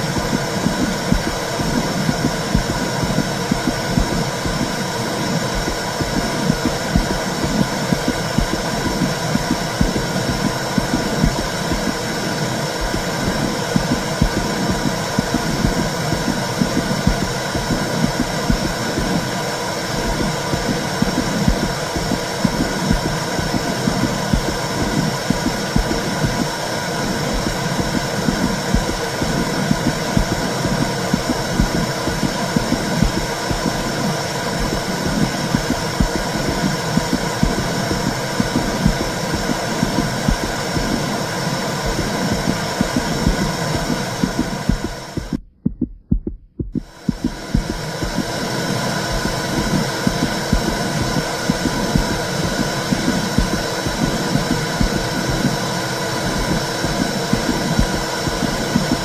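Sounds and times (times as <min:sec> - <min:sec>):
heartbeat throbbing: 0:00.0 - 0:59.0.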